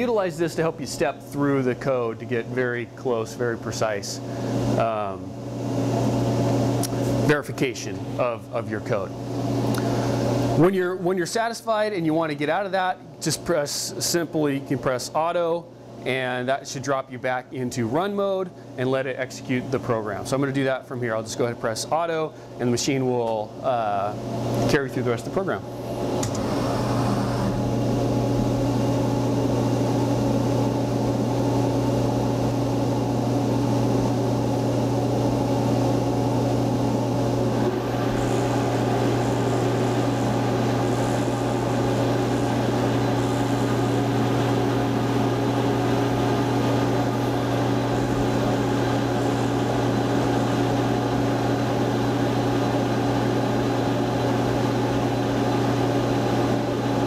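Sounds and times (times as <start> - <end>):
milling machine hum: 0.0 - 16.5, 17.4 - 57.0.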